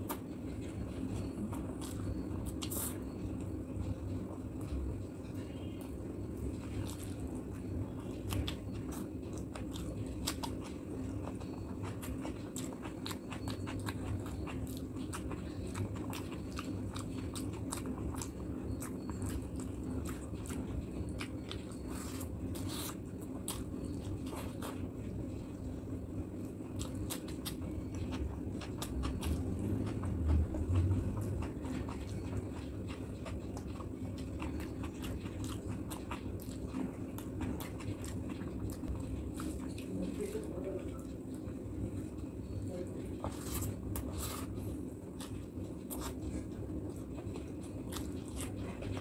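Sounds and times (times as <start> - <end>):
person chewing and lip smacking: 0.0 - 49.0.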